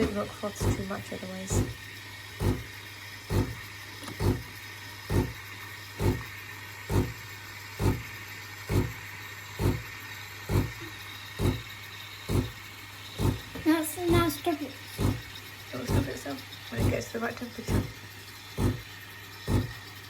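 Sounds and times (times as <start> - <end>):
pump pulsing: 0.0 - 20.0
steam wand hissing: 0.0 - 20.0.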